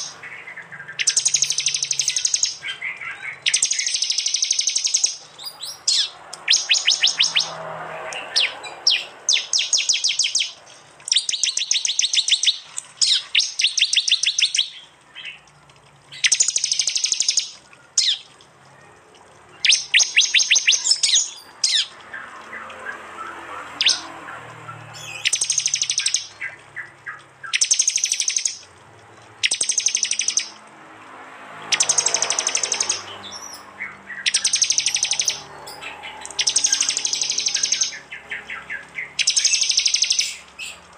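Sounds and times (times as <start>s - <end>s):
bird song rapid high notes: 0.0s - 15.4s, 16.1s - 18.4s, 19.6s - 28.7s, 29.4s - 30.6s, 31.7s - 40.8s.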